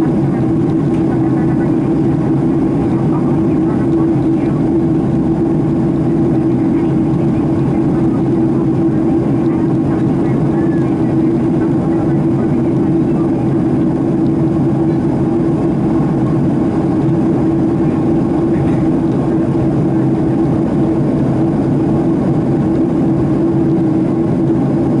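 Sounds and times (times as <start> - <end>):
jet cabin engine rumble: 0.0 - 25.0.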